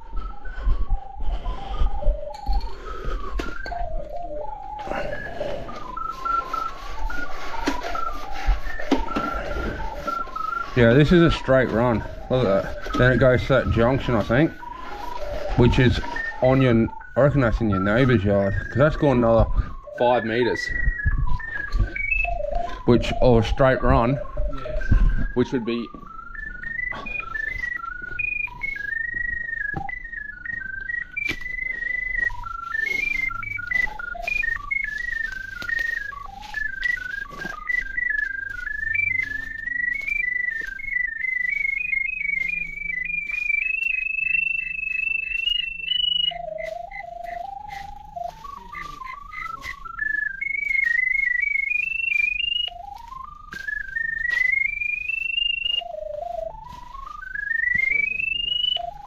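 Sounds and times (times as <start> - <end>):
electronic tone wandering in pitch: 0.0 - 59.0
footstep clicks and rustles: 0.0 - 59.0.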